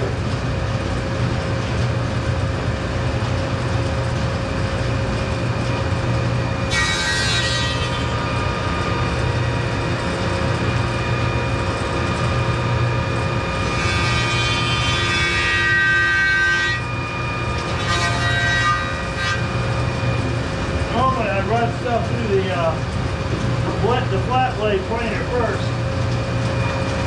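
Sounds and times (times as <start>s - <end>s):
thickness planer running: 0.0s - 27.0s
planer cutting wood whine: 2.8s - 27.0s.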